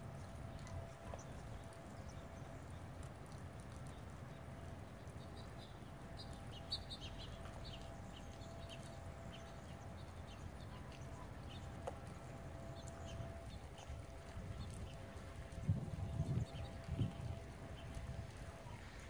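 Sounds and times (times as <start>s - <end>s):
faint steady hum: 0.0s - 19.0s
steady low rumble: 0.0s - 19.0s
small birds chirping: 0.2s - 19.0s.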